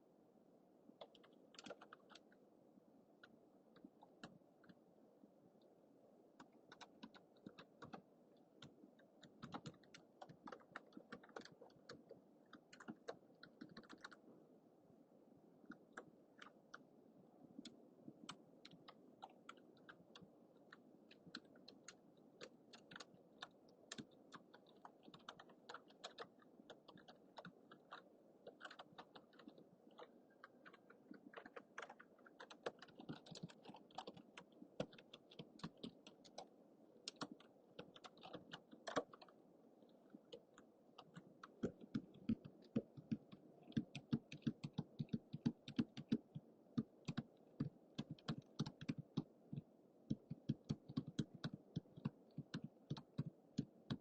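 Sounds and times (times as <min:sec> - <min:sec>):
low microphone hiss: 0:00.0 - 0:54.0.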